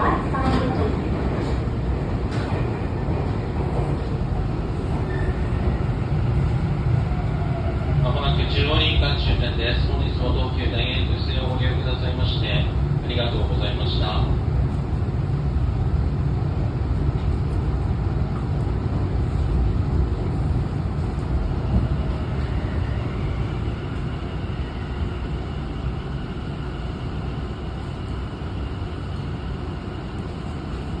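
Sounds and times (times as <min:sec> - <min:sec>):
train interior rumble: 0:00.0 - 0:31.0.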